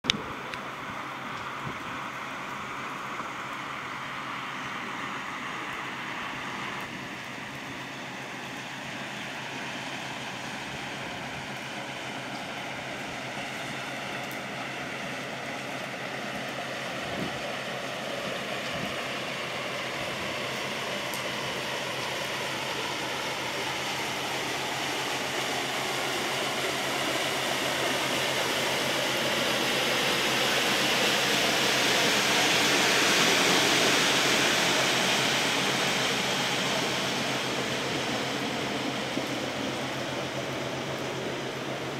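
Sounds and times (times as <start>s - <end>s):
low ship engine hum: 0.0s - 41.9s
water rushing along hull: 0.0s - 41.9s.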